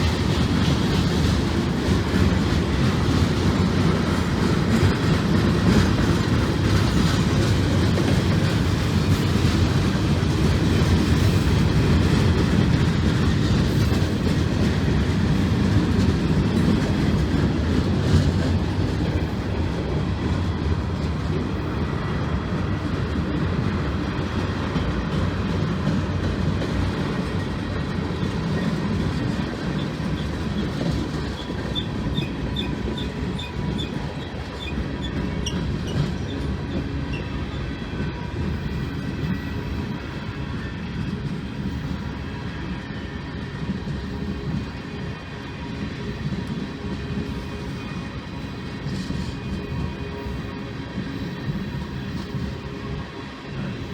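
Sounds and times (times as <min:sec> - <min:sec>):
freight train cars rolling on rails: 0:00.0 - 0:53.9.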